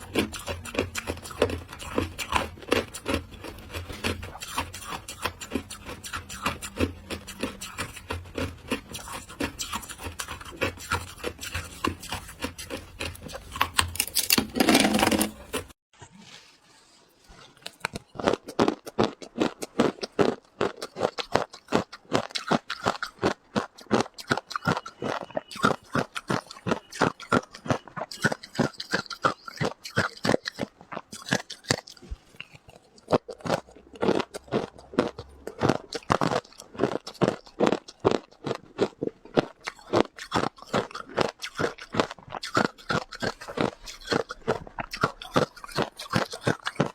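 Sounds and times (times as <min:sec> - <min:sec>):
crunching shaved ice being chewed: 0:00.0 - 0:15.8, 0:17.5 - 0:46.9.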